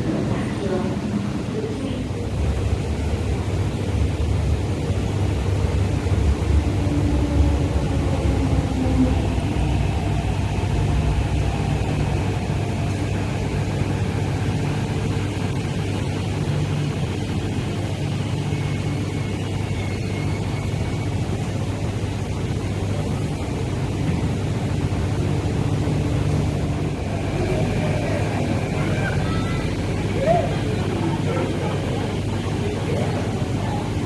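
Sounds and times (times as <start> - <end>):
train rumble and hum: 0.0 - 34.0
faint high whines: 5.6 - 34.0.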